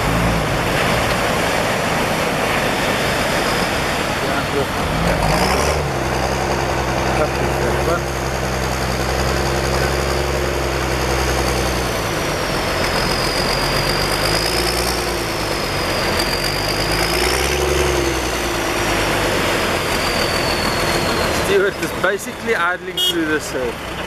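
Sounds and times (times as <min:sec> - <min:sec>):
high whine: 0:00.0 - 0:22.2
rushing noise: 0:00.0 - 0:23.9
engines idling: 0:00.0 - 0:24.0.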